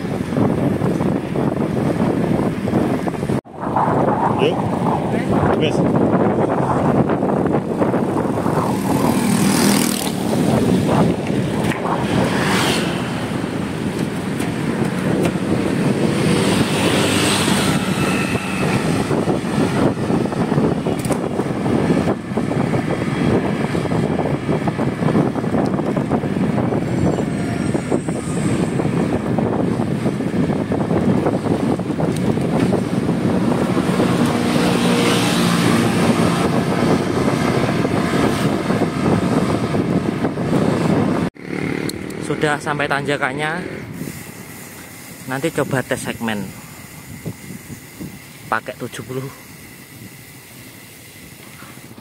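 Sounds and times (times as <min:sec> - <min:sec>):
vehicle road noise: 0:00.0 - 0:52.0
wind rushing: 0:00.0 - 0:52.0.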